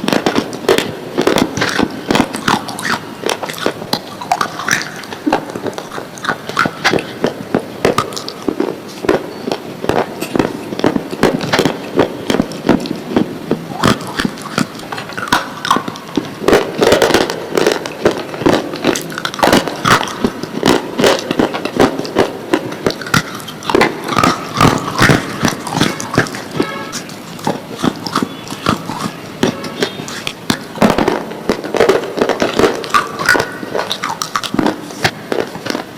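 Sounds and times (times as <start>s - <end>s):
slate pencils crunching in teeth: 0.0s - 35.9s.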